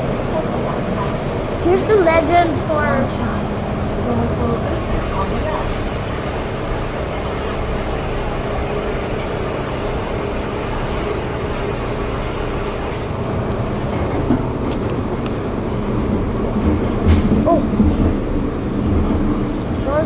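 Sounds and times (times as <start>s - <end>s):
metro train rumble and hiss: 0.0s - 20.0s.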